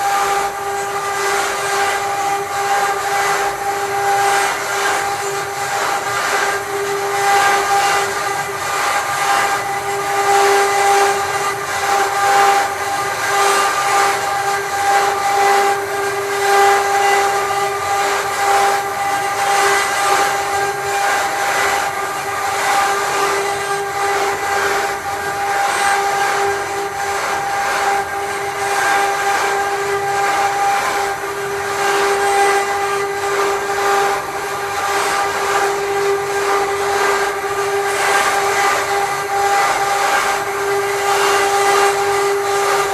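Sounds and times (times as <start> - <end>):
router spindle whine: 0.0 - 42.9.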